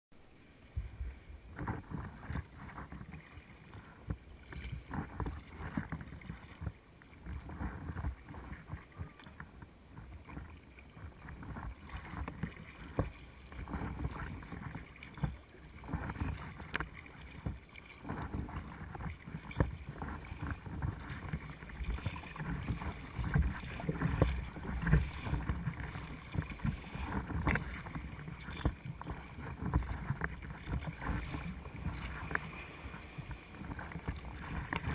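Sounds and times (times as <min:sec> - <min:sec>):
water slapping against kayak hull: 0:00.8 - 0:34.9.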